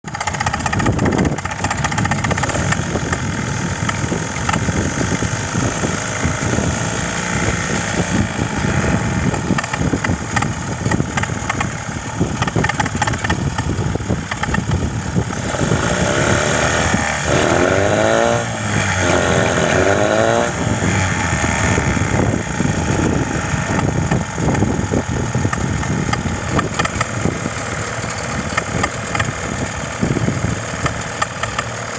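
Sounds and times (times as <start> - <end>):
outboard motor idling with knock: 0.0 - 16.9, 18.8 - 31.9.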